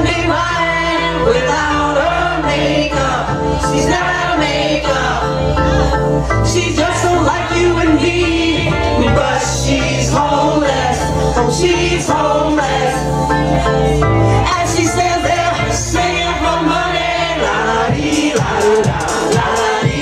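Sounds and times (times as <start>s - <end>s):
woman singing into microphone: 0.0s - 13.0s, 14.3s - 20.0s
house music backing track: 0.0s - 20.0s.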